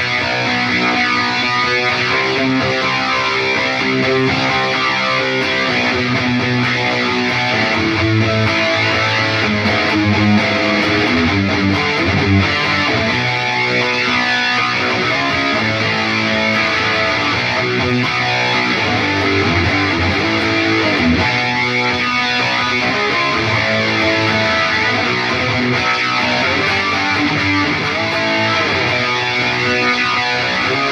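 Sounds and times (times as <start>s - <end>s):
electric guitar noodling: 0.0s - 30.9s.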